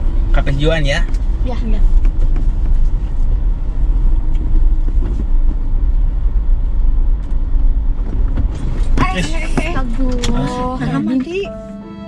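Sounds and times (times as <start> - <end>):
car cabin rumble while driving: 0.0 - 11.6.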